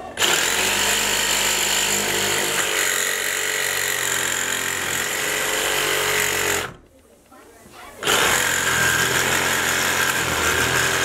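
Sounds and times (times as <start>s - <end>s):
power drill cutting through wood: 0.2s - 6.8s, 8.0s - 11.0s.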